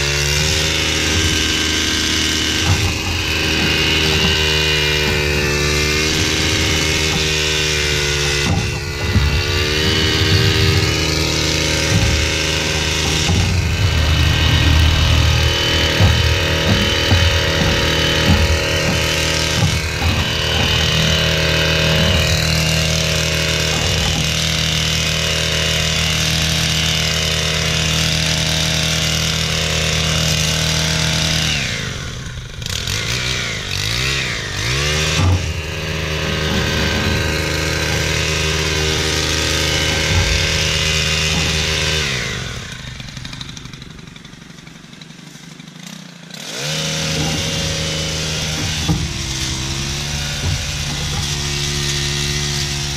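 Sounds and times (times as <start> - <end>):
hedge trimmer engine running: 0.0 - 52.9.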